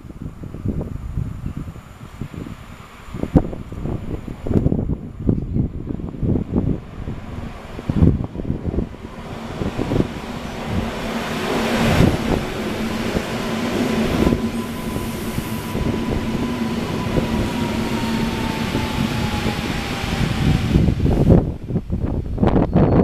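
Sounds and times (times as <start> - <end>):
train hum: 0.0 - 23.0
train wheels rumbling on rail: 0.0 - 23.0.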